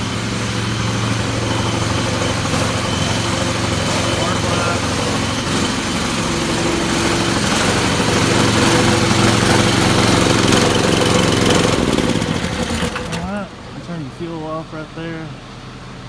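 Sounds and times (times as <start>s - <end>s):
small petrol engine running: 0.0s - 13.9s.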